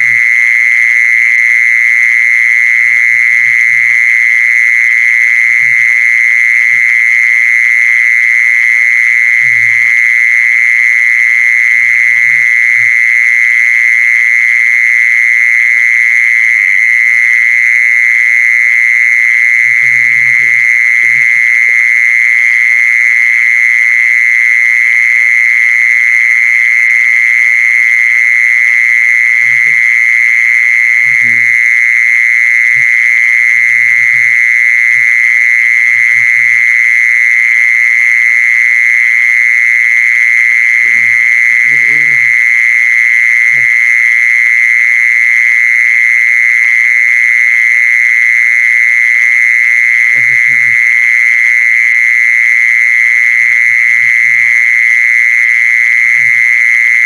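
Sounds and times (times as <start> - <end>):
high-pitched buzzing tone: 0.0 - 57.0.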